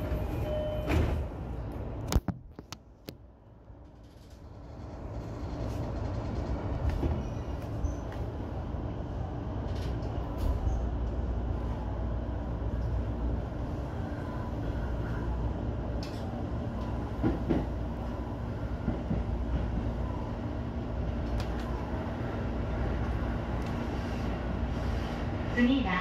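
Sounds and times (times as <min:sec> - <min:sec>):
electric train rumble: 0:00.0 - 0:02.2, 0:03.2 - 0:26.0.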